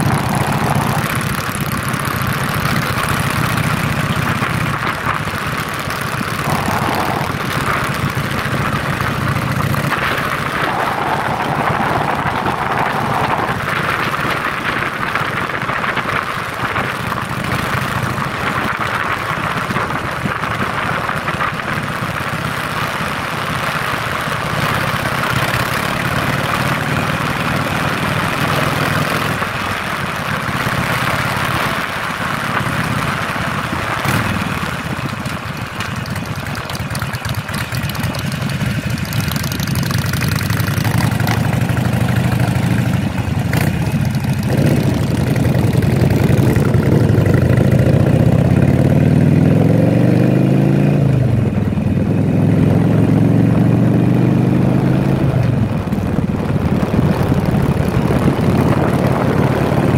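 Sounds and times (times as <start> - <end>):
wind rushing over microphone: 0.0 - 36.4, 38.3 - 59.9
motorcycle engine running: 0.0 - 59.9.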